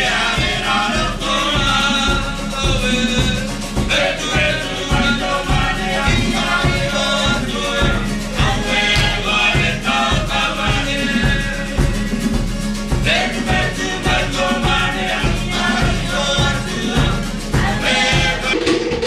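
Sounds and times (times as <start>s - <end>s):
steady drum beat: 0.0s - 19.0s
voices singing together: 0.0s - 19.0s.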